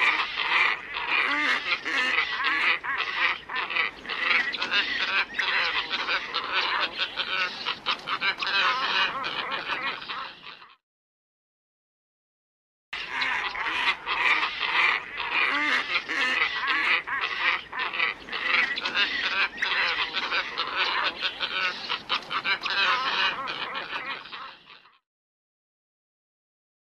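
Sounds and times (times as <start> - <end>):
flock of ibis calling harshly: 0.0 - 10.8, 13.0 - 24.9.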